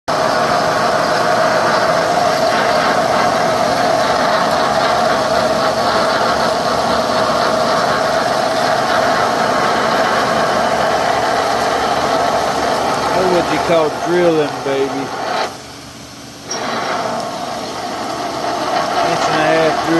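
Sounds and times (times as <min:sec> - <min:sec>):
lathe drilling with whine: 0:00.1 - 0:19.9.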